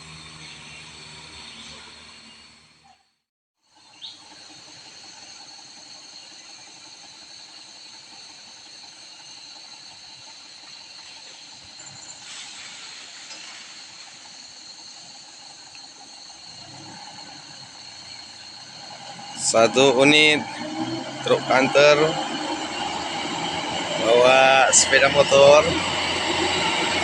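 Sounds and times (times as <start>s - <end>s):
steady outdoor hiss: 0.0s - 2.9s, 3.6s - 27.0s
high-pitched whine: 4.1s - 27.0s.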